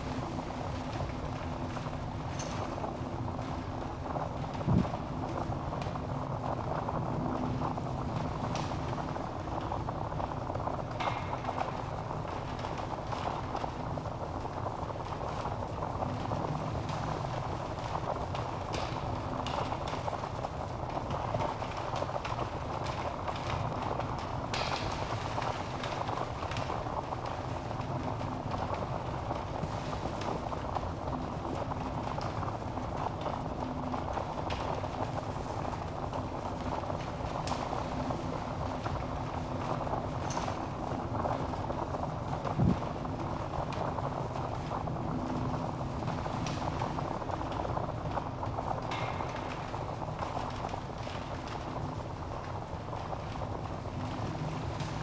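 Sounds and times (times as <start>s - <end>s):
fire flames rushing: 0.0s - 55.0s
logs crackling and popping: 0.6s - 55.0s.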